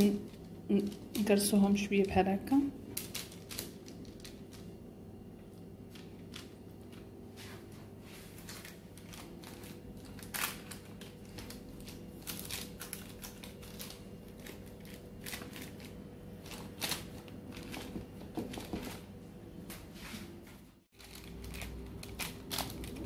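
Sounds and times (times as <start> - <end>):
parchment paper crinkling: 0.0 - 4.8, 5.5 - 19.1, 20.9 - 23.0.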